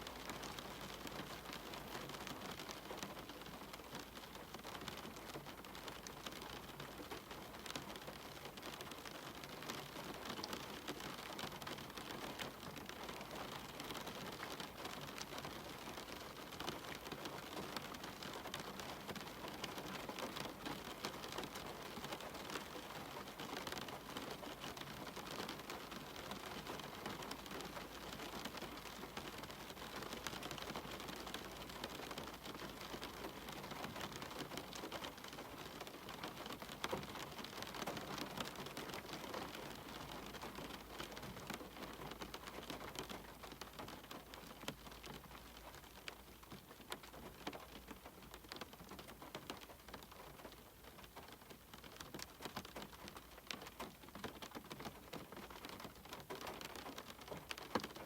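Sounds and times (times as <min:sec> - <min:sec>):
raindrops ticking: 0:00.0 - 0:58.0
steady rain hiss: 0:00.0 - 0:58.0.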